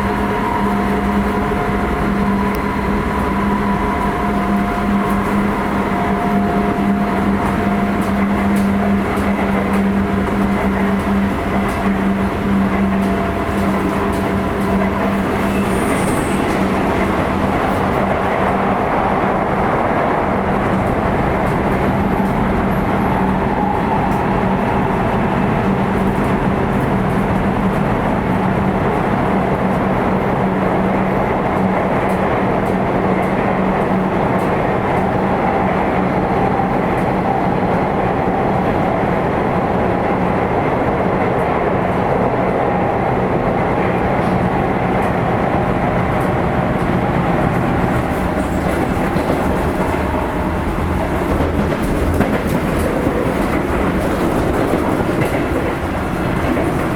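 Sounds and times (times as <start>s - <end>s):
electric train running: 0.0s - 40.3s, 41.9s - 56.9s.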